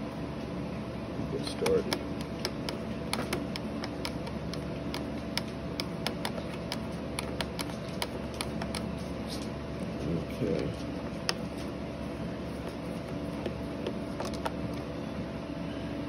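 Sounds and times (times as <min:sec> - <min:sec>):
air conditioning hum: 0:00.0 - 0:16.0.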